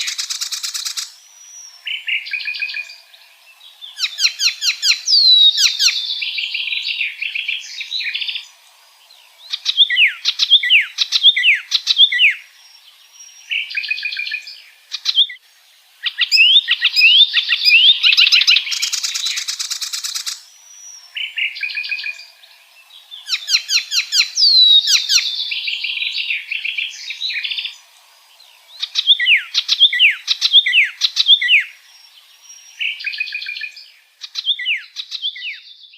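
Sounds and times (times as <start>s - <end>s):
warbler singing: 0.0s - 35.9s.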